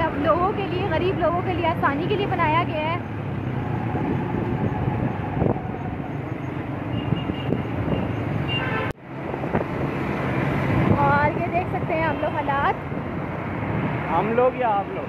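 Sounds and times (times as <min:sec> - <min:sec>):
motorcycle engine and road noise: 0:00.0 - 0:15.0.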